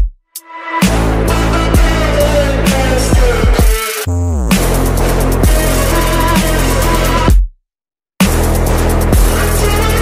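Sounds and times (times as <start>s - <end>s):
electronic music with deep bass: 0.4s - 7.4s, 8.2s - 10.0s.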